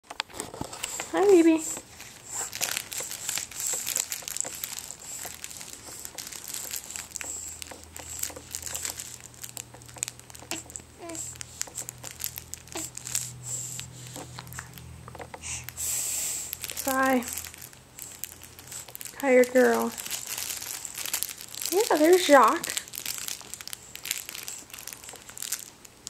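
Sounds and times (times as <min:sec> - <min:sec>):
fabric toy crinkling: 0:00.1 - 0:14.8, 0:15.4 - 0:26.0.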